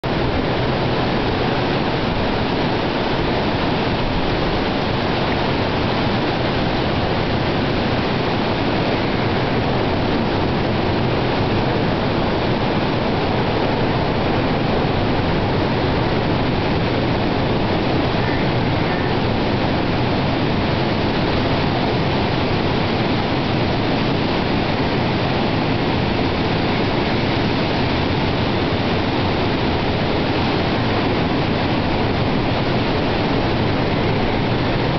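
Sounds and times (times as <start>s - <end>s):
heavy surf breaking on rocks: 0.0s - 34.9s.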